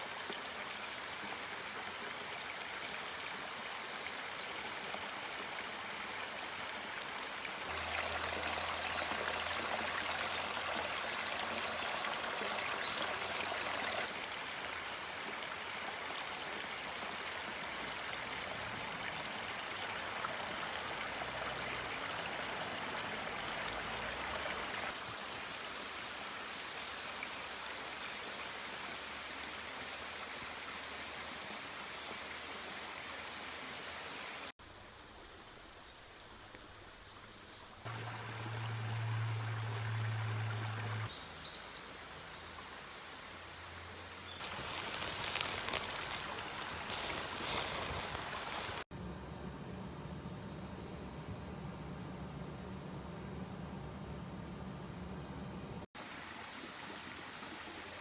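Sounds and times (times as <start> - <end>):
flowing water rushing: 0.0 - 48.9, 56.0 - 58.0.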